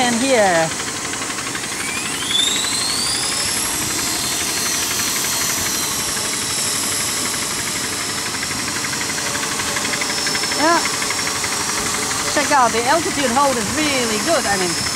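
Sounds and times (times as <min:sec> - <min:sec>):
quadcopter propellers buzzing: 0:00.0 - 0:14.9.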